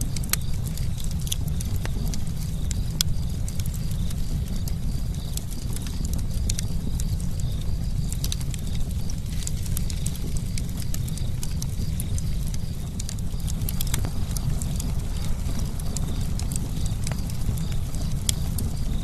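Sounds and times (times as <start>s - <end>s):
campfire wood crackling: 0.0s - 19.0s
low fire rumble: 0.0s - 19.0s.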